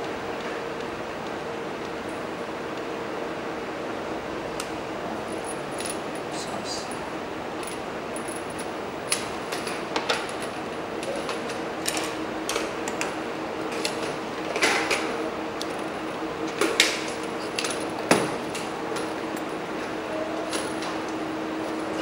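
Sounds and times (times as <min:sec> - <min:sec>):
steady room hum: 0:00.0 - 0:22.0.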